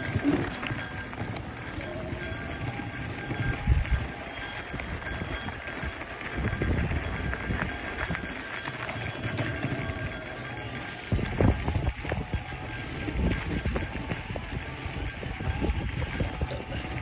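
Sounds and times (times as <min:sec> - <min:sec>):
bike knocking and rattling: 0:00.0 - 0:17.0
bike tyres on packed dirt: 0:00.0 - 0:17.0.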